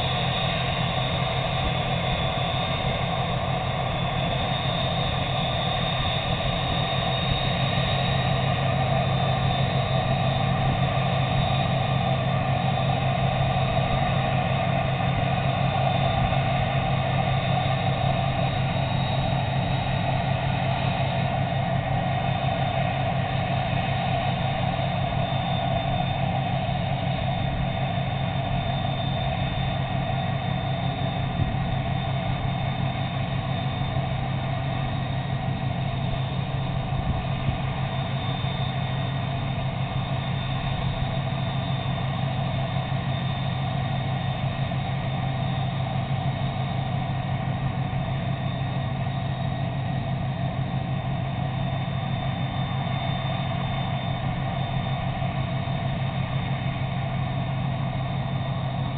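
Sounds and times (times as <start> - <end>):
diesel engine drone: 0.0 - 58.9.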